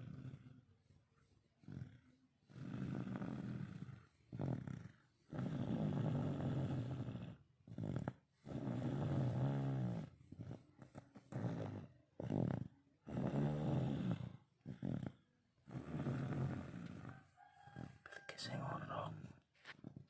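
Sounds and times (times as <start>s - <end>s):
low droning snores: 0.0s - 20.0s.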